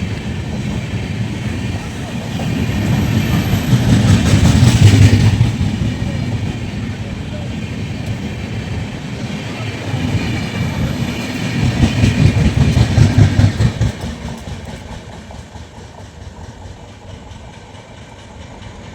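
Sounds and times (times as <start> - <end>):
train passing at speed: 0.0 - 18.9.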